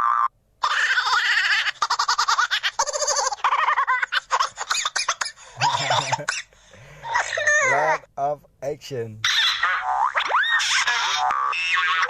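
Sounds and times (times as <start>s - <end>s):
cartoon giggle-like squeaks: 0.0s - 8.0s, 9.2s - 12.0s.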